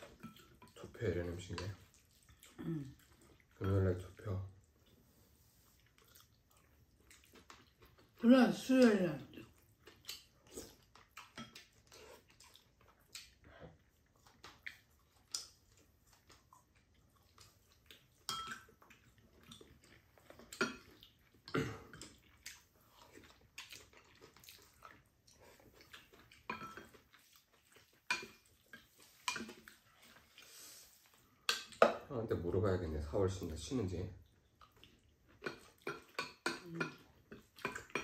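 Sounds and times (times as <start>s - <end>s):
chewing: 0.0s - 8.2s, 9.2s - 31.8s, 34.2s - 38.0s.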